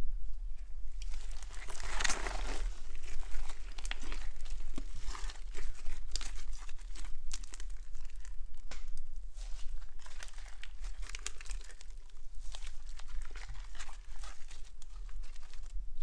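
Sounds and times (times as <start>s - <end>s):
slime crackling and popping: 0.9s - 16.0s.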